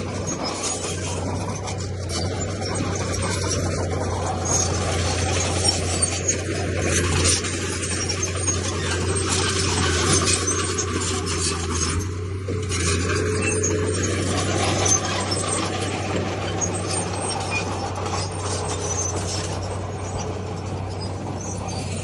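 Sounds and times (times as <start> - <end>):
diesel engine running: 0.0 - 22.0
rock and soil scraping: 0.0 - 22.0.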